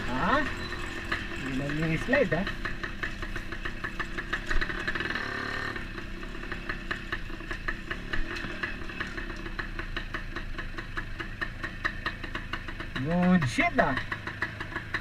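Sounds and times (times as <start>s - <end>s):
motorcycle engine ticking: 0.0s - 15.0s.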